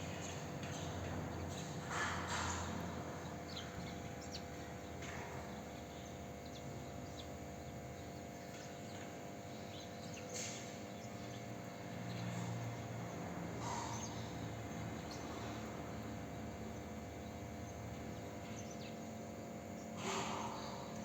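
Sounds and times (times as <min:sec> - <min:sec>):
small birds chirping faintly: 0:00.0 - 0:21.0
steady background hum: 0:00.0 - 0:21.0.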